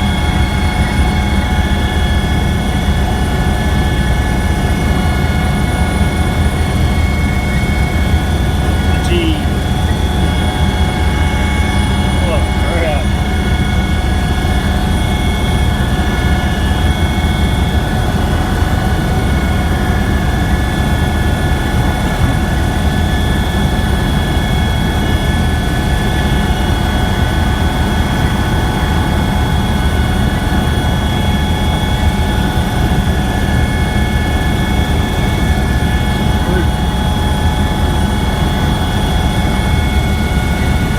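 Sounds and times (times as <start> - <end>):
helicopter rotor drone: 0.0 - 40.9
turbine whine: 0.0 - 40.9.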